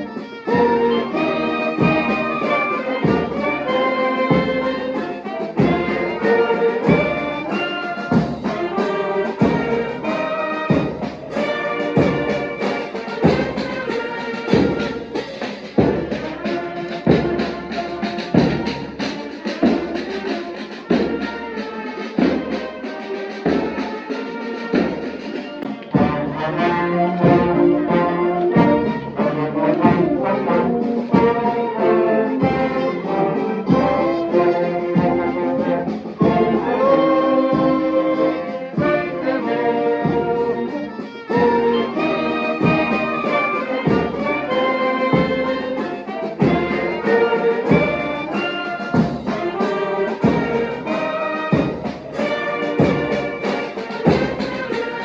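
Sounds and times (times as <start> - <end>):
brass band playing a march: 0.0 - 55.0
steady drum beat: 0.0 - 55.0.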